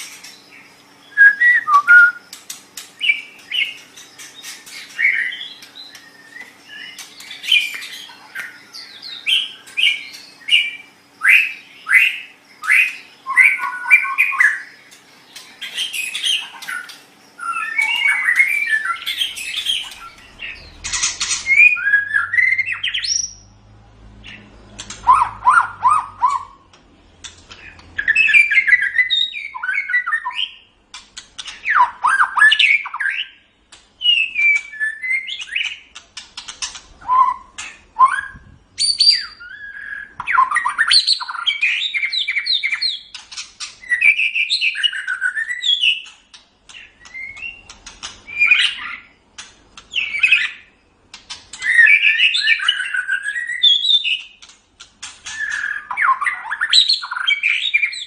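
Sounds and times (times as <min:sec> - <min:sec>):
songbird whistling and chirping: 0:00.0 - 0:02.4, 0:03.0 - 0:23.5, 0:24.2 - 0:26.6, 0:27.6 - 0:30.7, 0:31.4 - 0:36.0, 0:37.0 - 0:49.2, 0:49.9 - 0:50.7, 0:51.5 - 0:54.4, 0:55.2 - 0:58.0.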